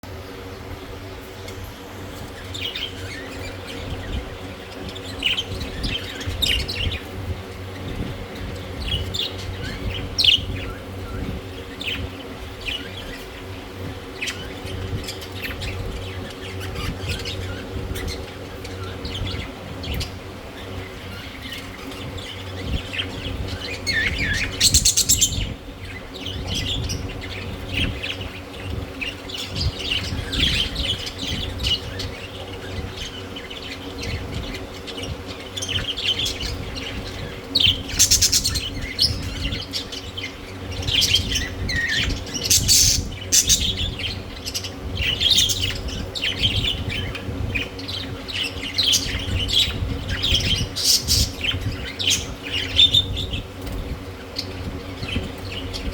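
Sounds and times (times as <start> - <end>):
steady low hum: 0.0 - 55.9
budgerigars chirping and chattering: 1.4 - 55.9.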